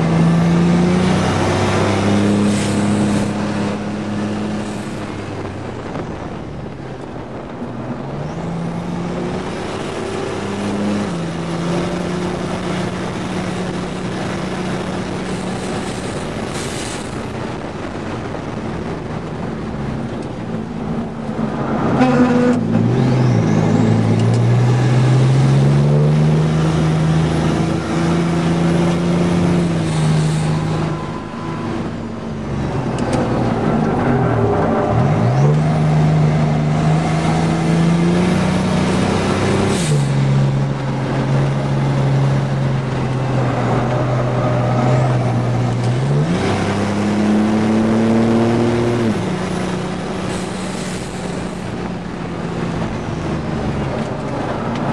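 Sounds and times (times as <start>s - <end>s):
road and wind noise: 0.0s - 54.9s
truck engine revving with gear shifts: 0.0s - 54.9s.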